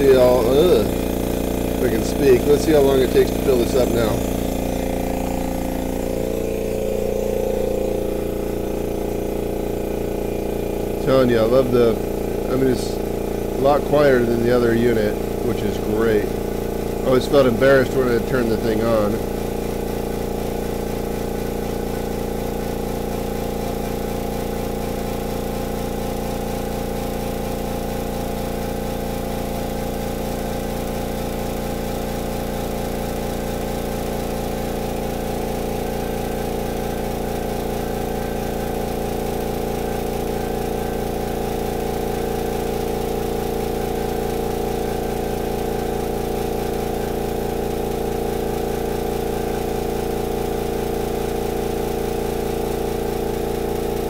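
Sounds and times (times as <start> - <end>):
air compressor pump running: 0.0 - 54.0.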